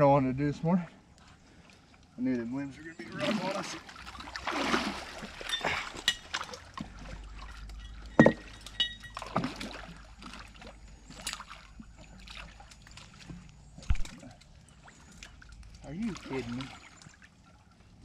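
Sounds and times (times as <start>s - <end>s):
water sloshing and splashing: 0.8s - 18.0s.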